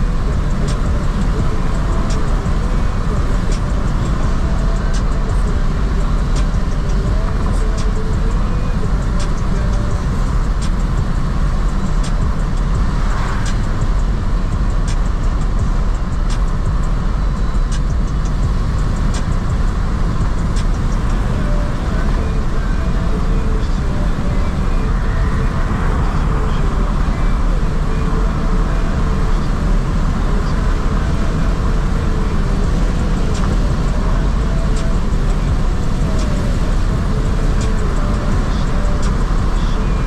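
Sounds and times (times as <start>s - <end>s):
car interior road rumble: 0.0s - 40.0s.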